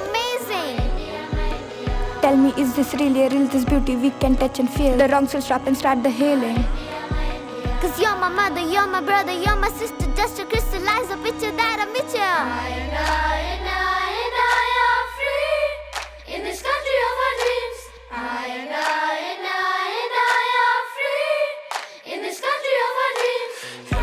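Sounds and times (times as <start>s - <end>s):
children's choir singing: 0.0s - 24.0s.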